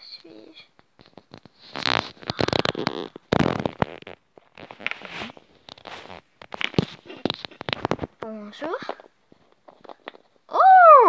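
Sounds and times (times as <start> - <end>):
phone handling rubbing and rustling: 0.8 - 8.2, 8.8 - 10.4.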